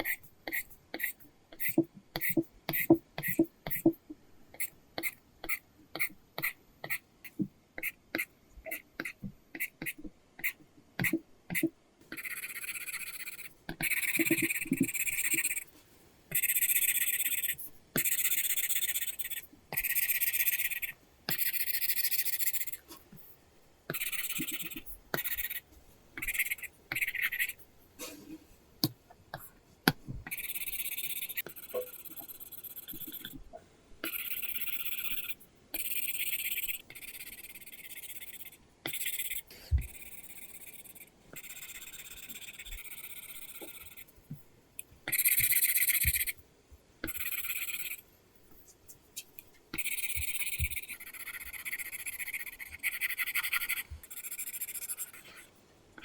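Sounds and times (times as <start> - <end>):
stylus scratching on screen: 0.0 - 4.0, 4.6 - 23.1, 23.9 - 28.4, 29.4 - 33.4, 34.0 - 44.2, 45.1 - 46.4, 47.0 - 55.6.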